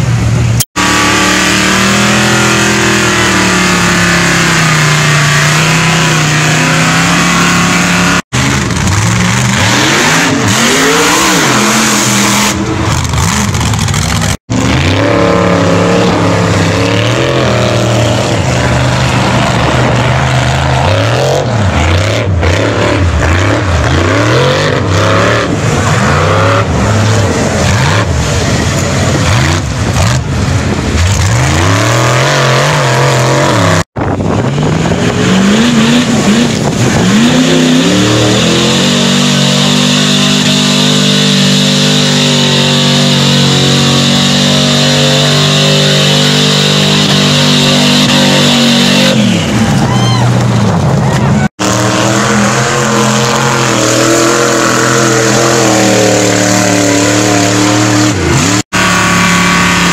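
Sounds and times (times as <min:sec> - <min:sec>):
tires churning mud: 0:00.0 - 0:59.9
truck engines revving: 0:00.0 - 0:59.9.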